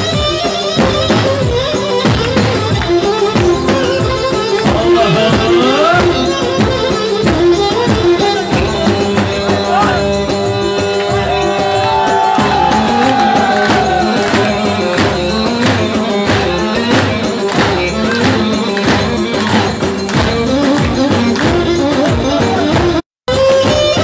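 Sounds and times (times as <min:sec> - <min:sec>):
bass drum beaten in quick rhythm: 0:00.0 - 0:24.0.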